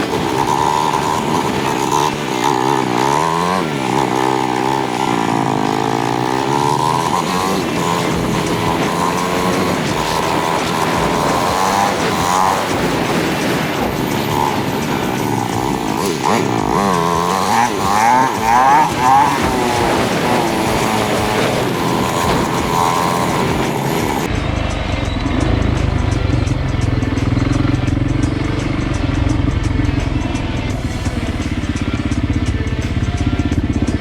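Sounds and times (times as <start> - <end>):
dirt bike engines revving: 0.0 - 34.0
engine running close by: 0.0 - 34.0.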